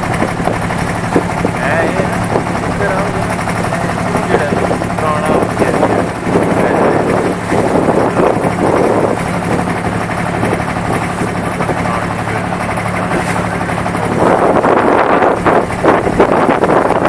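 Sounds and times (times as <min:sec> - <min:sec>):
boat engine droning: 0:00.0 - 0:17.0
wind on microphone: 0:00.0 - 0:17.0.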